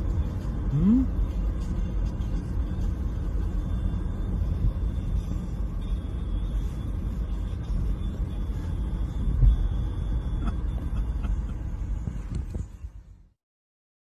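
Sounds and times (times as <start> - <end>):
car cabin road rumble: 0.0 - 13.4.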